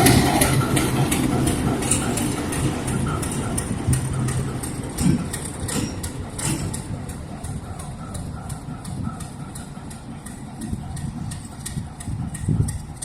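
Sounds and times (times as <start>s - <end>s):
locomotive engine humming: 0.0s - 13.0s
wheels clicking over rail joints: 0.0s - 13.0s.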